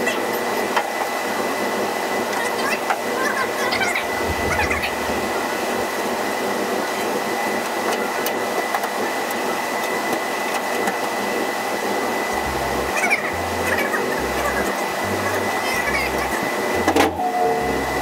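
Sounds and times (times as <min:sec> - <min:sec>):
machine running with high whine: 0:00.0 - 0:18.0.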